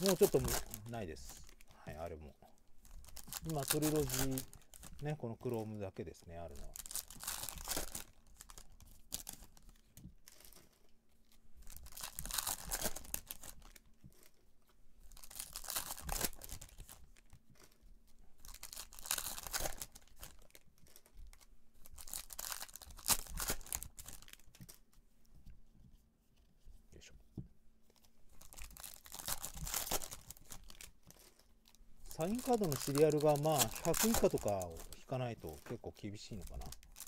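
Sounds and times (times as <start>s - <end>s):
foil wrappers tearing and crinkling: 0.0s - 1.7s, 2.8s - 5.6s, 6.4s - 14.4s, 15.0s - 17.8s, 18.4s - 24.8s, 28.3s - 37.0s.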